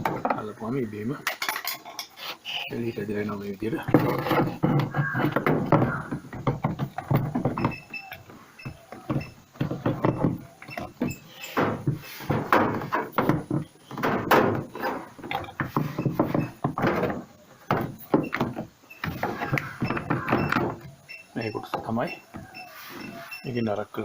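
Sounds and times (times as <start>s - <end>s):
metal parts clunking and clicking: 1.2s - 23.8s.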